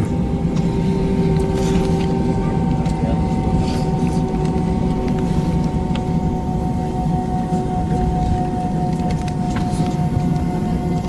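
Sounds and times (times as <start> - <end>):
jet engines rumbling and whining: 0.0 - 11.0.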